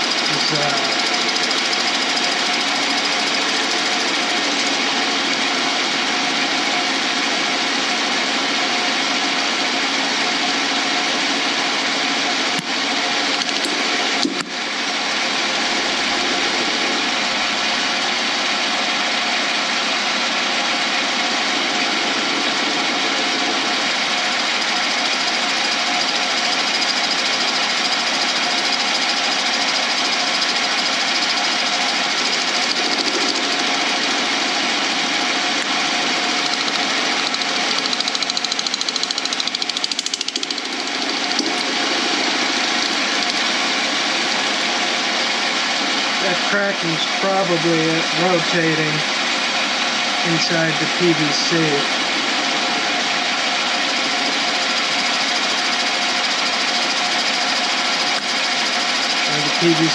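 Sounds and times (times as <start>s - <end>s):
lathe machine whirr: 0.0s - 59.9s.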